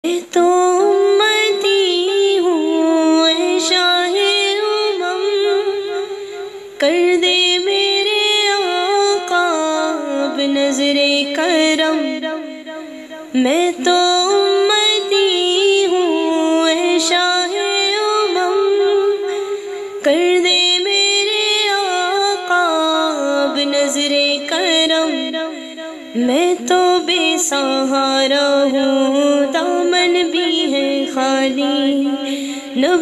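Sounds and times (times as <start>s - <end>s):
woman singing unaccompanied: 0.0s - 33.0s.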